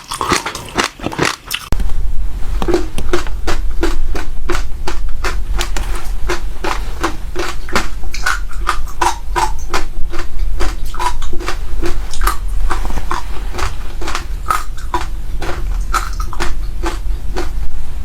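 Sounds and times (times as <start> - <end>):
chewing crunchy seeds: 0.0 - 1.7, 2.6 - 17.7.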